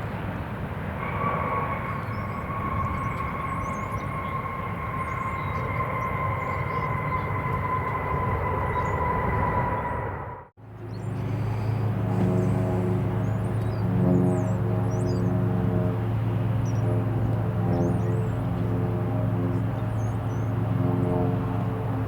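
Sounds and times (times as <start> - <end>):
jet engines whining: 0.6 - 22.0.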